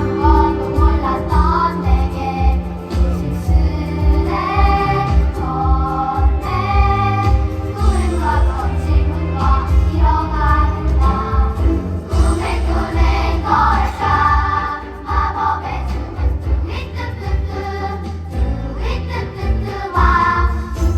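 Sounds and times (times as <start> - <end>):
group singing: 0.0 - 20.9.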